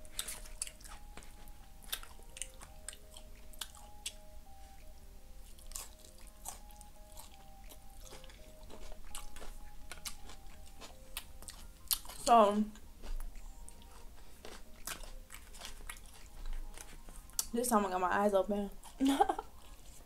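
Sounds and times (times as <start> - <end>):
person chewing: 0.0 - 17.5, 18.8 - 20.0
soft background music: 0.0 - 20.0.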